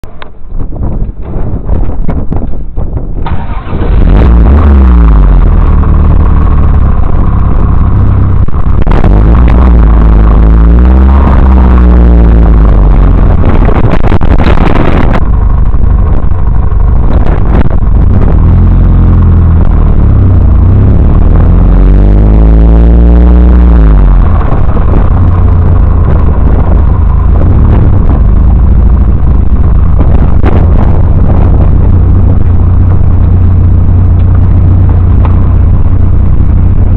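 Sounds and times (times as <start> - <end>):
car engine revving through gears: 3.3 - 36.9.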